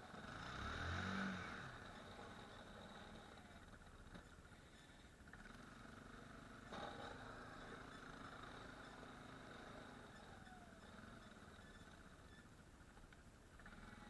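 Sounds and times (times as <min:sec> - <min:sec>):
atv engine running faintly: 0:00.0 - 0:14.0.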